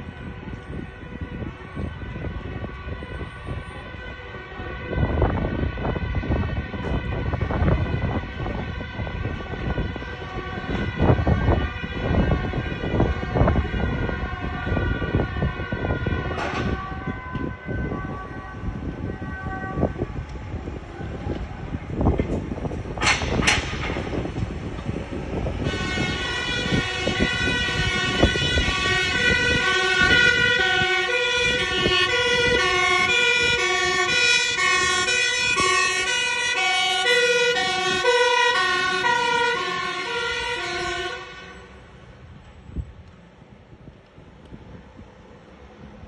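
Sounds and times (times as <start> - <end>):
emergency vehicle siren: 0.0 - 42.9
low rumbling wind gusts: 0.0 - 46.0.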